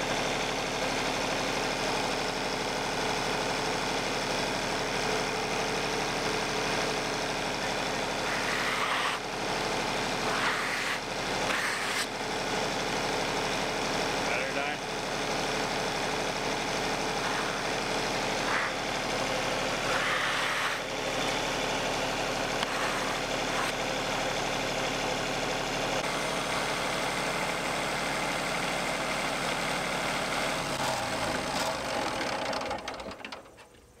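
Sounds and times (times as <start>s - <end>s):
sawmill engine running: 0.0s - 33.6s.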